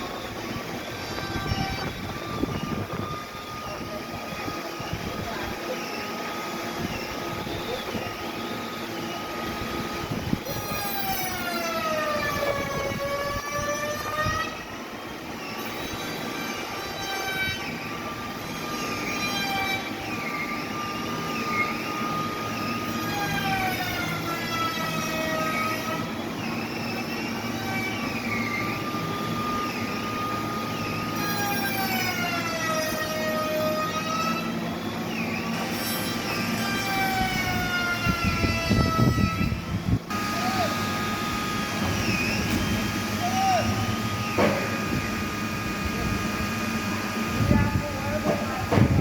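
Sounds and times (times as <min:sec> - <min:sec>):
sawmill machinery whining: 0:00.0 - 0:49.0.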